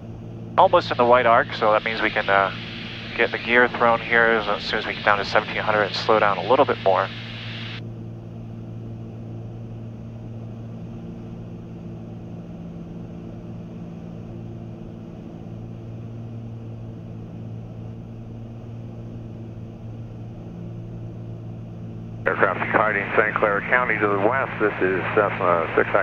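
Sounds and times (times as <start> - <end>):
twin piston aircraft engines droning: 0.0 - 26.0.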